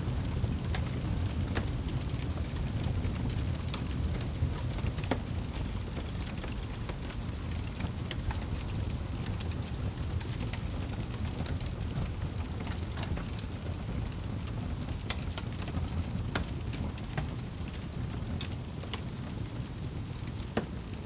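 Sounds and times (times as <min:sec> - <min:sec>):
fire flame rumble: 0:00.0 - 0:21.0
firewood crackling and popping: 0:00.0 - 0:21.0.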